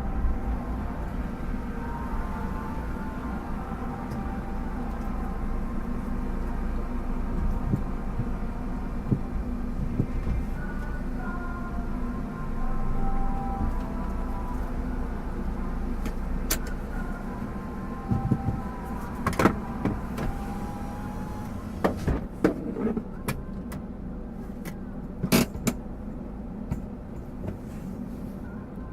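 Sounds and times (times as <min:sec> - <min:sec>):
car engine and road rumble: 0:00.0 - 0:28.9.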